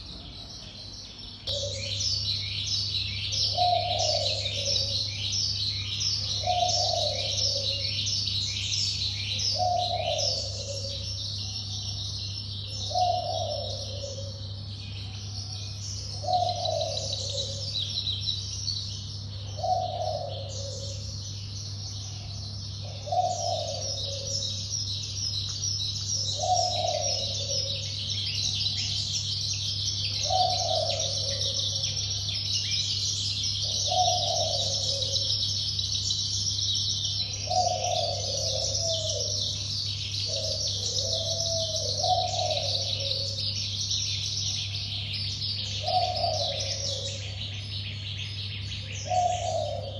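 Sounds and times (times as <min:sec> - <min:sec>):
birds chirping and twittering: 0:00.0 - 0:49.9
steady low hum: 0:00.0 - 0:49.9.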